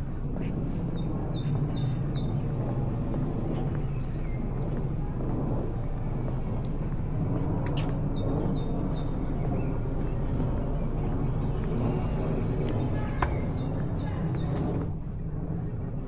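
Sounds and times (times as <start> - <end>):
low city rumble: 0.0 - 16.0.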